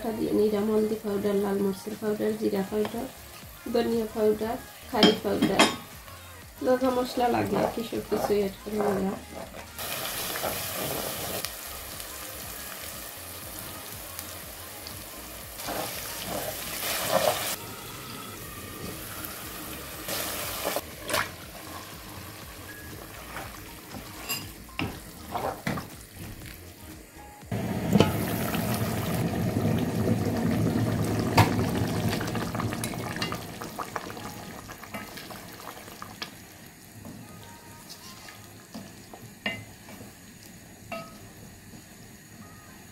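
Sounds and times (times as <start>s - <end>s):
paste sizzling in oil: 6.5s - 26.9s, 27.5s - 42.3s.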